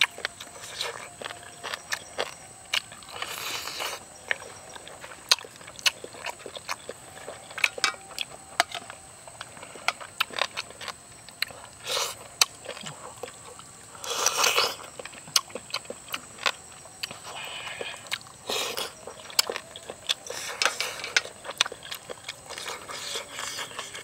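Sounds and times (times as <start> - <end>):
wet chewing and lip smacks: 0.0 - 24.0.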